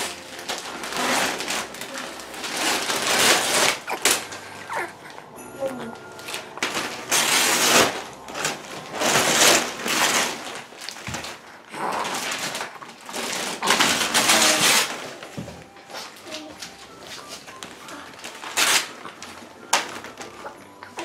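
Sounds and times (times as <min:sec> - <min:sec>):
wrapping paper ripping and crumpling: 0:00.0 - 0:21.0.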